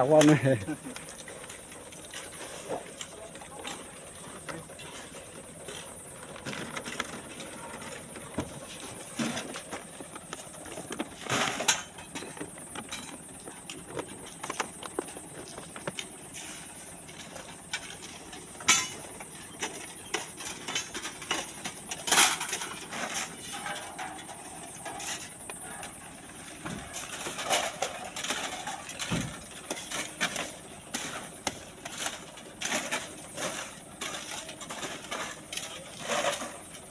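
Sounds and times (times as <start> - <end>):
shovels scraping sand and stones: 0.0 - 13.2, 14.0 - 36.9.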